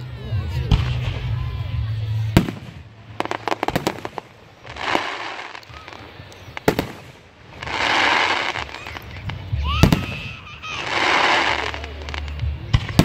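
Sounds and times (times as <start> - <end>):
fireworks crackling pops: 0.6 - 13.0.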